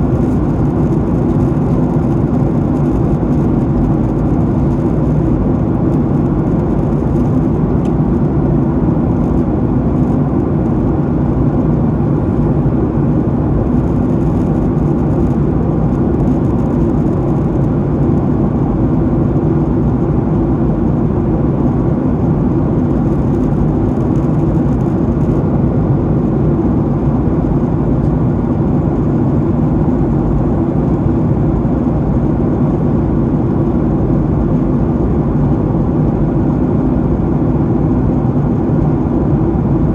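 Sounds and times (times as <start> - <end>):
jet engine and airflow roar: 0.0 - 39.9.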